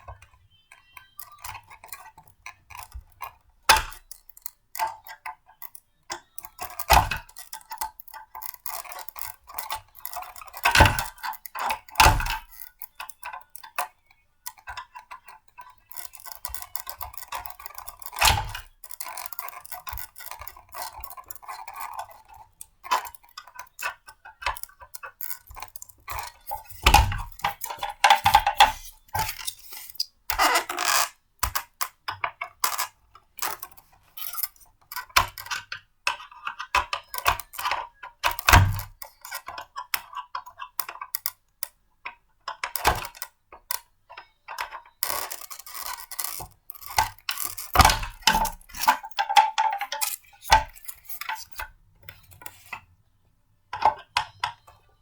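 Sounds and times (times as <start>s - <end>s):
plastic and glass clicks: 0.0s - 41.8s, 42.5s - 52.8s.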